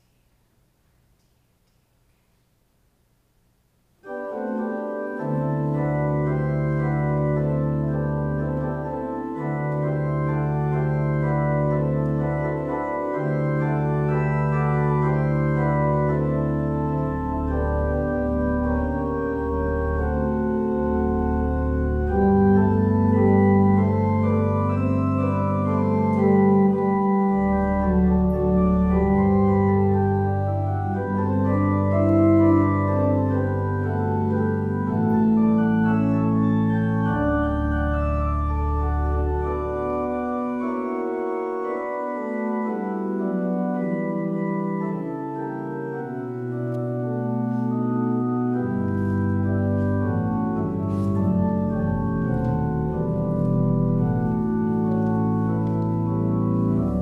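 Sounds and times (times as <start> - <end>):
church organ playing a hymn: 4.0 - 57.0.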